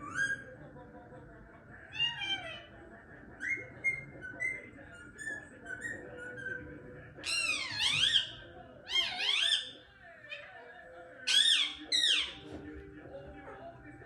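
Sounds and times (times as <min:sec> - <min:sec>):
parrot chirps and chatter: 0:00.0 - 0:12.6.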